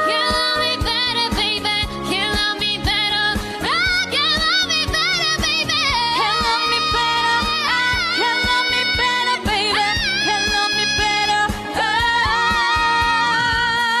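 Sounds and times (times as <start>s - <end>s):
person singing with vibrato: 0.0s - 14.0s
pop backing with kick drum: 0.0s - 14.0s.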